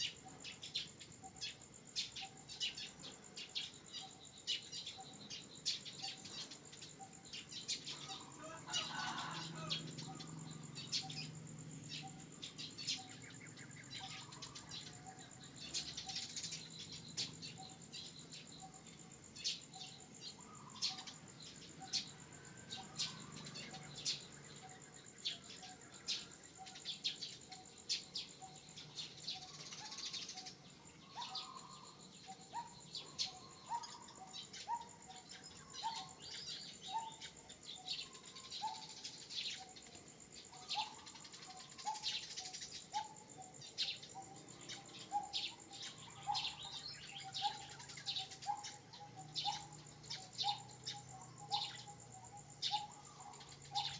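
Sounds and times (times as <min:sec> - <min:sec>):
birds chirping: 0:00.0 - 0:53.9
insect drone: 0:00.0 - 0:53.9.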